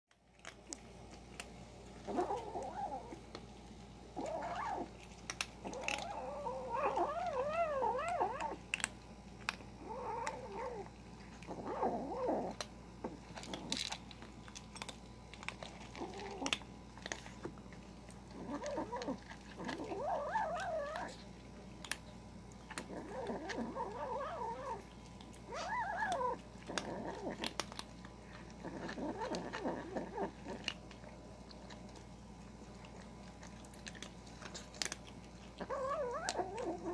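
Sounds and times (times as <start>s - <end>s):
dry kibble crunching: 0.1s - 36.9s
kitten growling: 2.0s - 3.2s, 4.1s - 14.0s, 14.8s - 17.6s, 18.2s - 22.0s, 22.6s - 32.0s, 32.6s - 36.9s.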